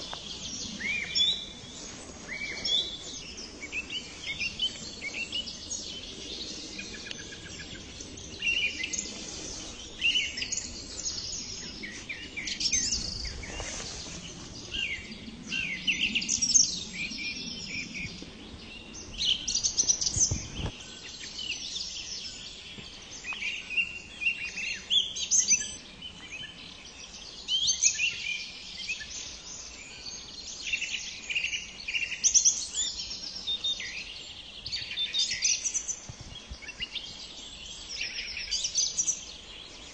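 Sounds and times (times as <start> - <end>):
song thrush singing: 0.0 - 39.9.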